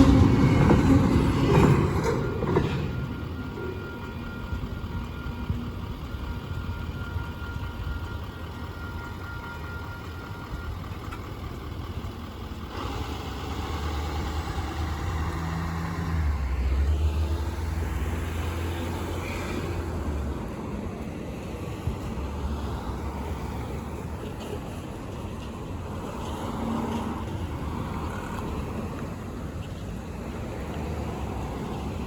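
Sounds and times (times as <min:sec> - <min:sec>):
vehicle engine hum: 0:00.0 - 0:32.0.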